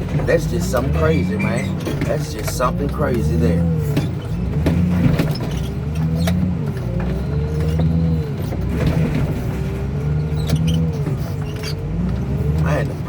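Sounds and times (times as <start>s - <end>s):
metal clanks and knocks: 0.0s - 12.7s
diesel engine running: 0.0s - 13.0s.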